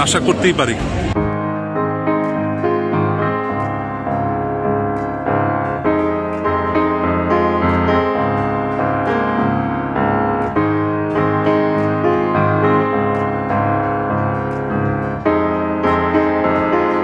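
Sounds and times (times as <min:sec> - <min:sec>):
gentle piano melody: 0:01.2 - 0:17.0.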